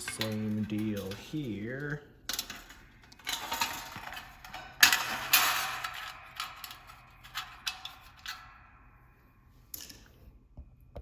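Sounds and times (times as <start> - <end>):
metal clinking and scraping: 0.0 - 10.4.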